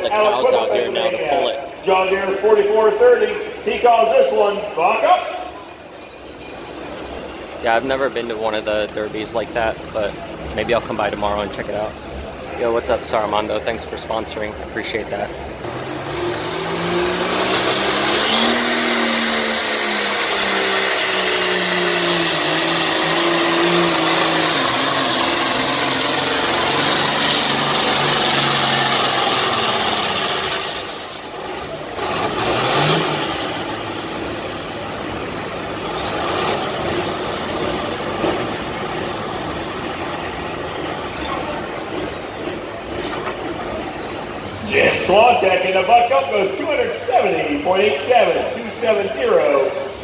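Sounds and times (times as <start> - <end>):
tractor diesel engine under load: 0.0 - 50.0.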